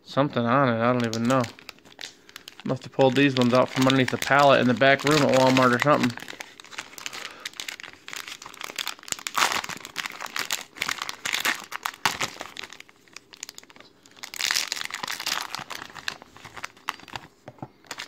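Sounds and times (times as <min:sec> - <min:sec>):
plastic wrapper tearing and crinkling: 0:00.8 - 0:18.0.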